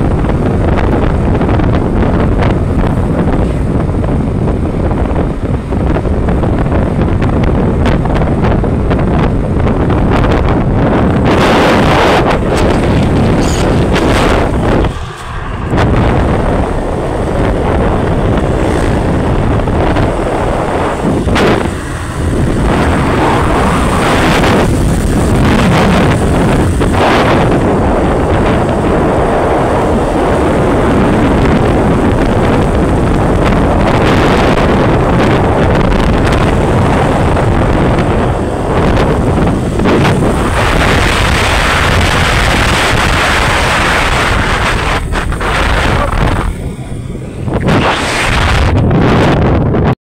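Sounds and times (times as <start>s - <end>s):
motorcycle road noise: 0.0s - 50.0s
wind rushing over microphone: 0.0s - 50.0s.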